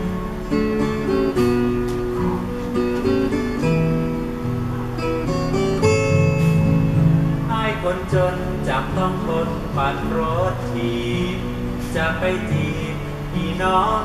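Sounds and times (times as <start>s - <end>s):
acoustic guitar music over loudspeakers: 0.0s - 14.0s.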